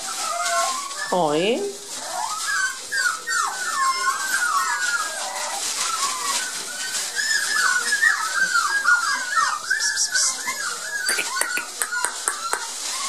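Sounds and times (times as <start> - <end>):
puppies whining: 0.0 - 13.0.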